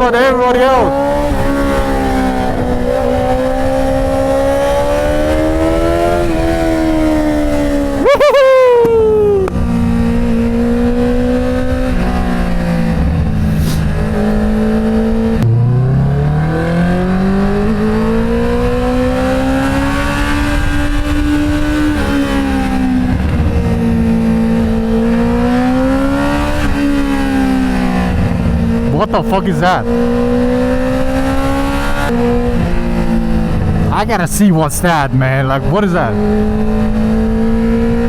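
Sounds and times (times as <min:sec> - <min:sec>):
car engine revving through gears: 0:00.0 - 0:34.3, 0:34.9 - 0:38.0.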